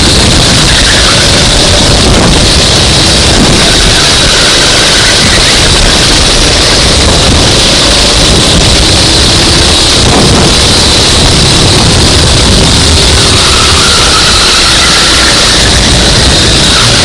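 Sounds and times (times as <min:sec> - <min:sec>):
kart engine running under load: 0:00.0 - 0:17.0
wind buffeting microphone: 0:00.0 - 0:17.0.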